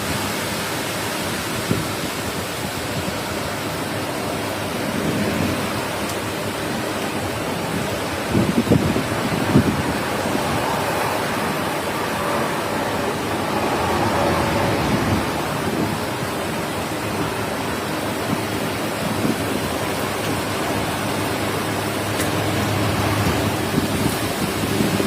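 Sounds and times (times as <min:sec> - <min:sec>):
heavy rain: 0:00.0 - 0:25.0
strong wind: 0:00.0 - 0:25.0.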